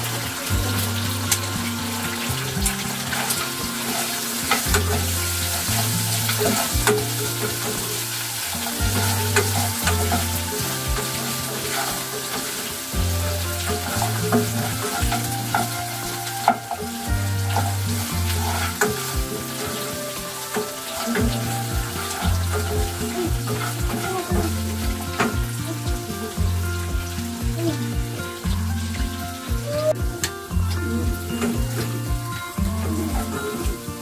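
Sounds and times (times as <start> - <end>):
background music with bass: 0.0 - 34.0
potatoes sizzling in oil: 0.0 - 34.0.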